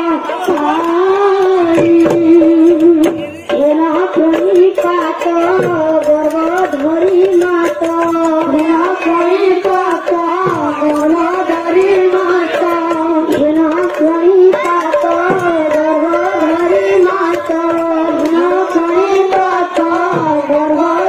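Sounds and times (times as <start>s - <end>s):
boy singing into a microphone: 0.0s - 21.0s
hand drum playing: 0.0s - 21.0s.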